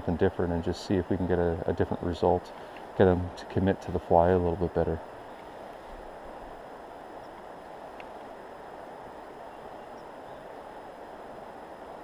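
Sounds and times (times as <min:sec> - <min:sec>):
river water flowing over stones: 0:00.3 - 0:12.0.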